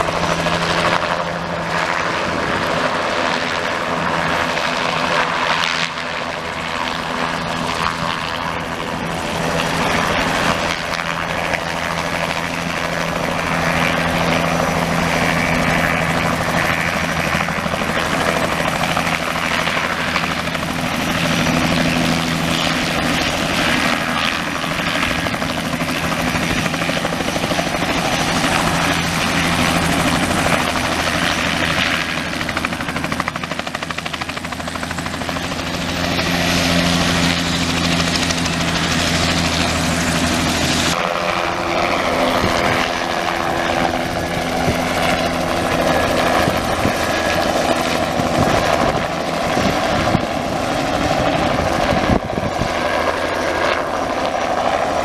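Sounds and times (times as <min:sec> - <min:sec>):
helicopter turbine and rotor: 0:00.0 - 0:55.0.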